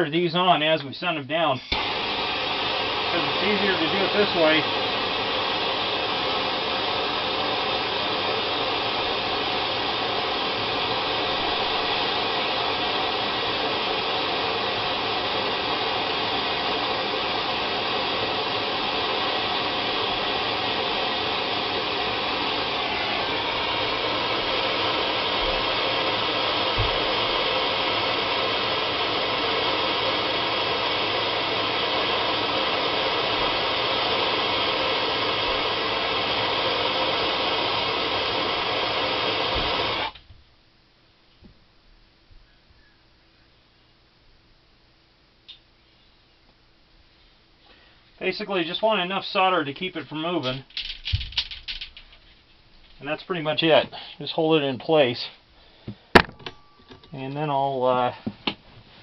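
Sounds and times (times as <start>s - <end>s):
gas torch hissing: 0.0s - 40.2s, 48.1s - 52.0s, 53.0s - 59.0s.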